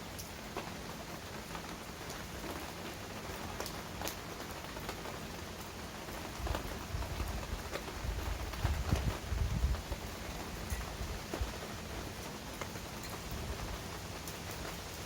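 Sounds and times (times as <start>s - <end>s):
rain falling: 0.0s - 15.0s
raindrops ticking nearby: 0.0s - 15.0s.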